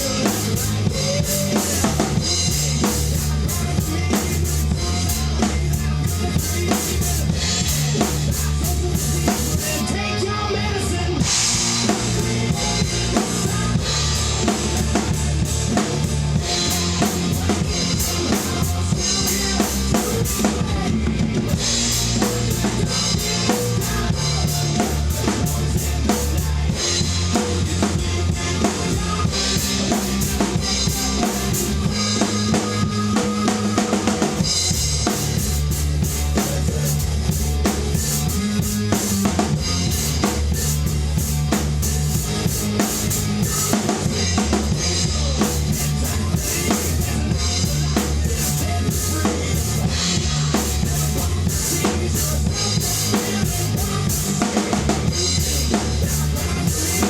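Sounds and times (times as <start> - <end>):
backing track with bass and guitar: 0.0 - 57.0
rock drum kit beat: 0.0 - 57.0.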